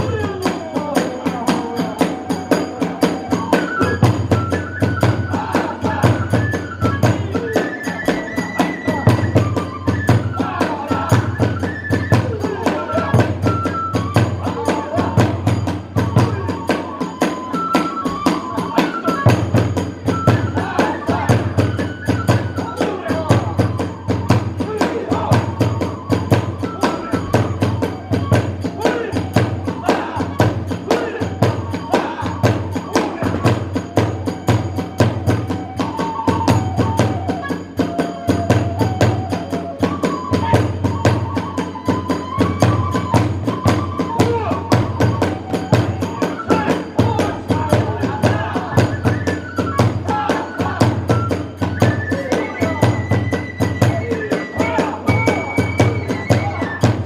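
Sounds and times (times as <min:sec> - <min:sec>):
drum beat: 0:00.0 - 0:57.0
flute melody: 0:00.0 - 0:57.0.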